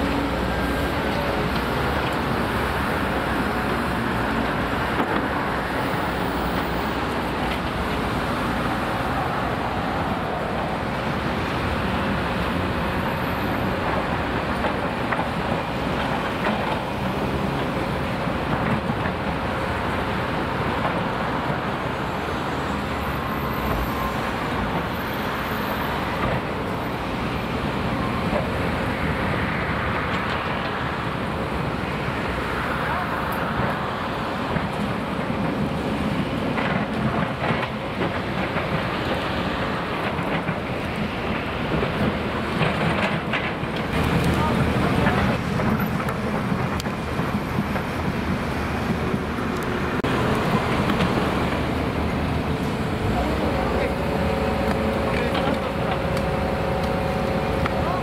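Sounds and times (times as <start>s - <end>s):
excavator engines running: 0.0s - 58.0s.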